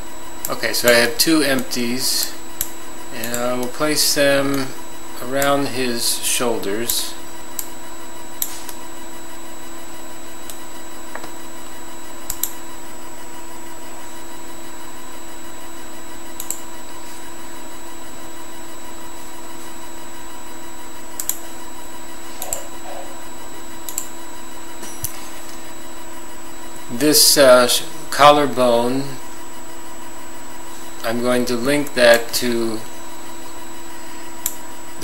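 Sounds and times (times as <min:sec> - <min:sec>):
electrical hum and hiss: 0:00.0 - 0:35.0.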